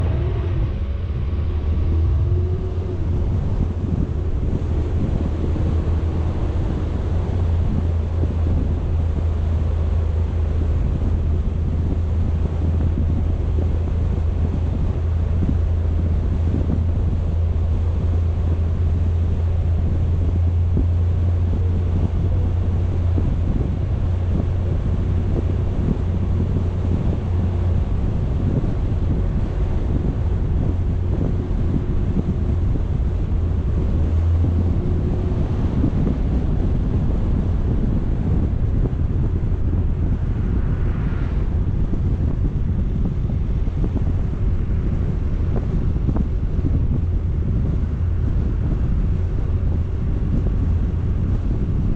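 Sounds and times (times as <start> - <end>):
moving vehicle running: 0.0 - 51.9
wind buffeting microphone: 0.0 - 51.9.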